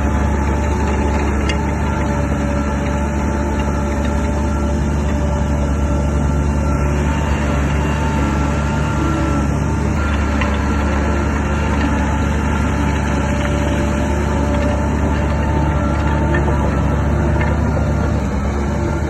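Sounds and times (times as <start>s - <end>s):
bulldozer diesel engine running: 0.0s - 19.0s
engine whine: 0.0s - 19.0s.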